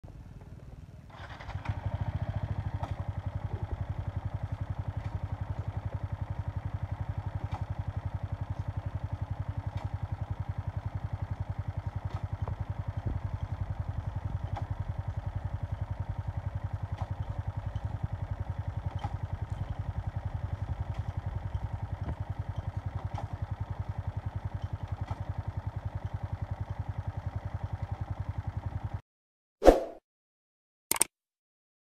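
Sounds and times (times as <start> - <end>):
motorcycle engine idling: 0.1 - 29.0.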